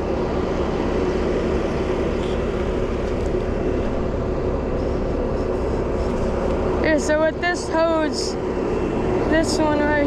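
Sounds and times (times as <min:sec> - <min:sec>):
skid steer engine running: 0:00.0 - 0:10.0.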